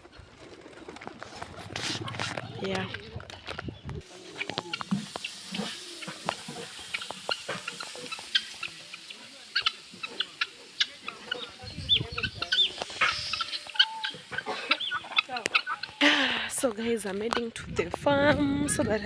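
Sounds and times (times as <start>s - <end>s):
chickens clucking: 0.0s - 17.6s.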